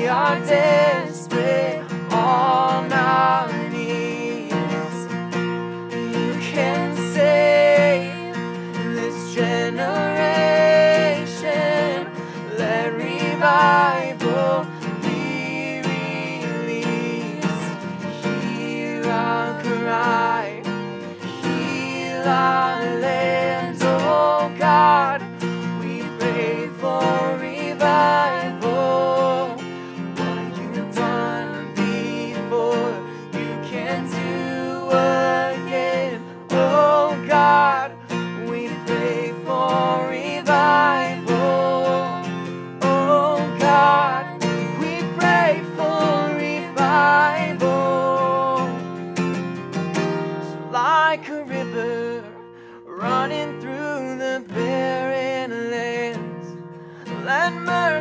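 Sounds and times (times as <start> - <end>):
man and woman singing: 0.0 - 5.2, 5.9 - 48.8, 50.5 - 56.3, 57.0 - 58.0
strummed acoustic guitar: 0.0 - 58.0.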